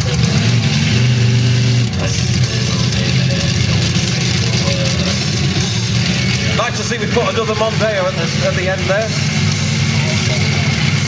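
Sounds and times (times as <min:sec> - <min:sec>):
truck engine droning: 0:00.0 - 0:11.0
music playing: 0:01.9 - 0:11.0.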